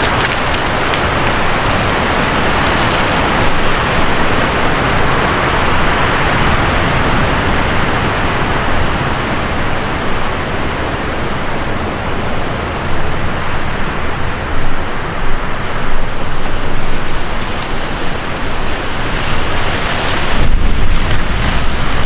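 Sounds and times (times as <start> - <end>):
heavy rain pouring: 0.0 - 22.0
strong wind gusts: 0.0 - 22.0.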